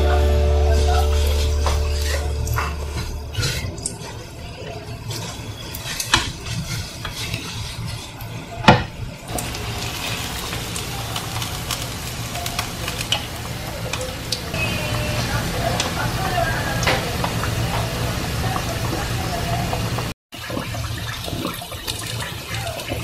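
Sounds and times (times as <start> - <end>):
meat deep-frying in hot oil: 3.3 - 23.0.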